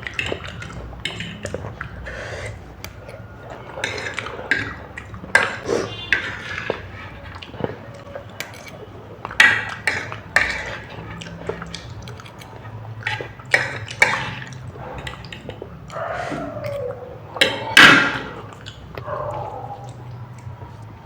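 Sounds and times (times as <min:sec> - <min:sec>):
eating noises: 0:00.0 - 0:21.0.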